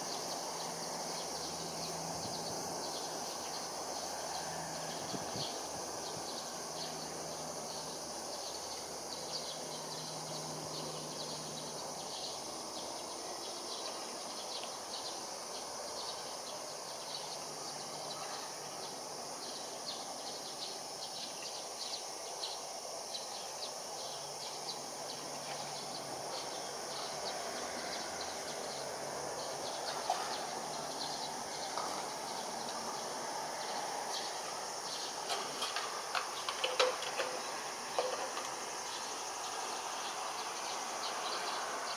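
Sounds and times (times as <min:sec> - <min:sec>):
insects chirping: 0:00.0 - 0:41.9.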